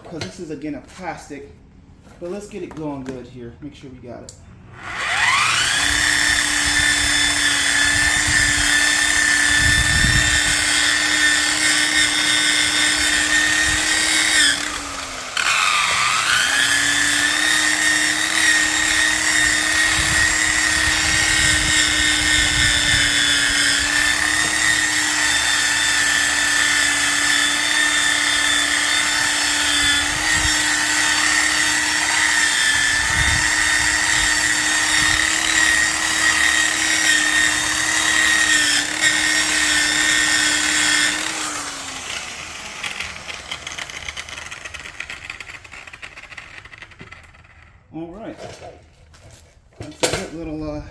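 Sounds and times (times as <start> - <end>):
electric buffer motor whine: 4.8 - 47.7.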